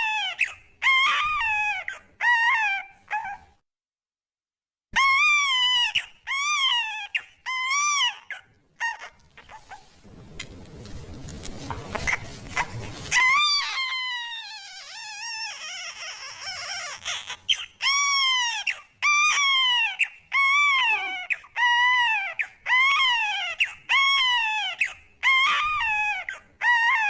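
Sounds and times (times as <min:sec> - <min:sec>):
baby crying: 0:00.0 - 0:03.4, 0:05.0 - 0:09.7, 0:12.6 - 0:27.0.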